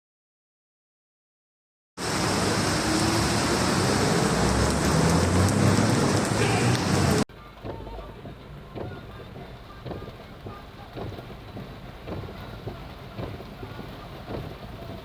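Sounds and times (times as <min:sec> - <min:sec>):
heavy rain pouring: 0:02.0 - 0:15.0.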